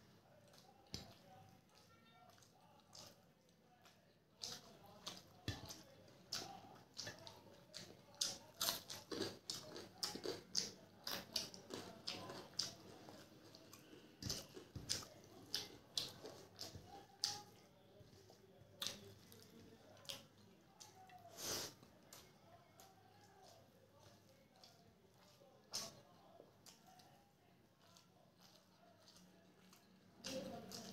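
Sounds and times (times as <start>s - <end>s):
fingers squishing food on plate: 0.3s - 30.9s
wet chewing and mouth smacks: 0.3s - 30.9s.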